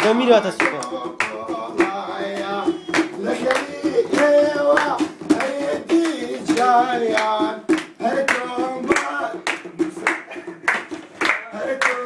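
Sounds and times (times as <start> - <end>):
man singing unaccompanied: 0.0 - 10.6, 11.2 - 12.0
rhythmic handclapping: 0.0 - 12.0.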